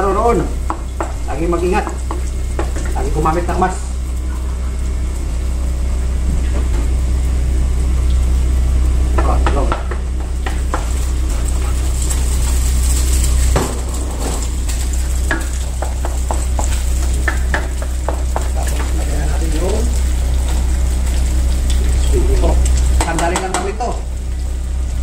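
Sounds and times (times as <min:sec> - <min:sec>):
egg sizzling in a frying pan: 0:00.0 - 0:25.0
steady low hum: 0:00.0 - 0:25.0.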